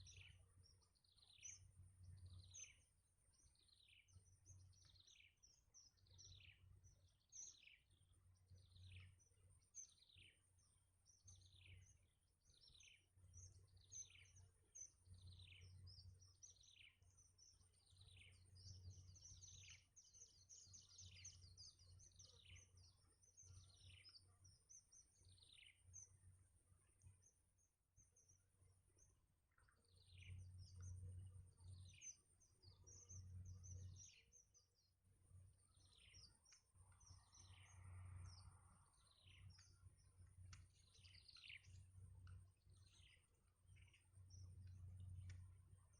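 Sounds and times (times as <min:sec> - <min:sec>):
faint small bird chirping: 0:00.0 - 0:45.9.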